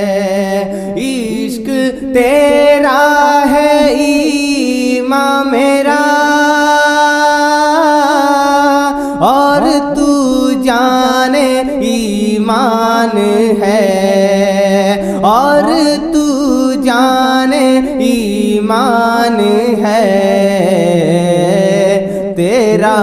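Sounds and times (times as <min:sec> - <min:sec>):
man singing devotional verse: 0:00.0 - 0:23.0.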